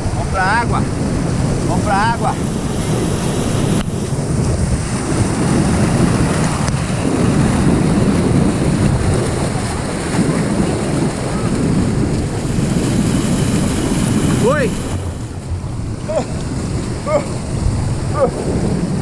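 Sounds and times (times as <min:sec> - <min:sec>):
rush of flowing water: 0:00.0 - 0:19.0.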